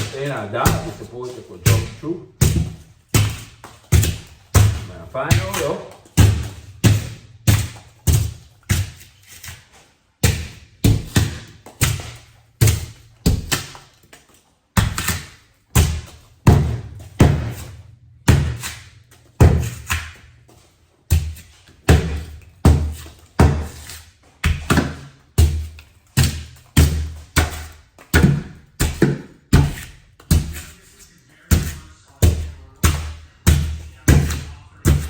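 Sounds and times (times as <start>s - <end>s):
heavy hammering on a door: 0.0s - 8.8s, 10.2s - 13.7s, 14.8s - 20.2s, 21.1s - 23.8s, 24.4s - 30.6s, 31.5s - 35.0s.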